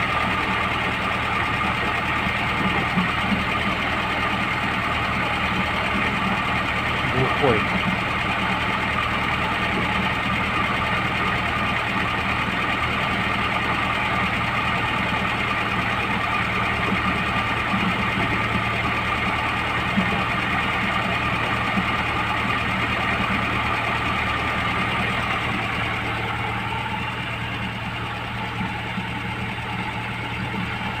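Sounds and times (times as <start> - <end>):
car drivetrain humming: 0.0 - 31.0.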